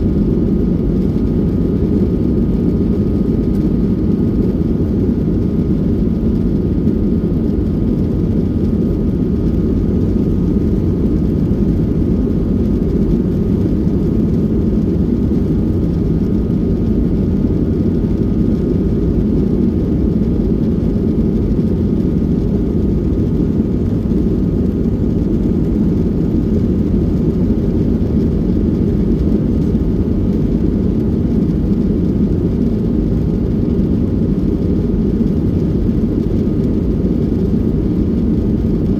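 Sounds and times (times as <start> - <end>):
aircraft cabin engine drone: 0.0 - 38.9.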